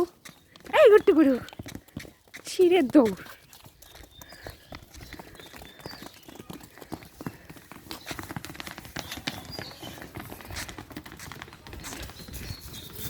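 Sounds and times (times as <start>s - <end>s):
cattle hooves clip-clopping: 0.0s - 13.0s.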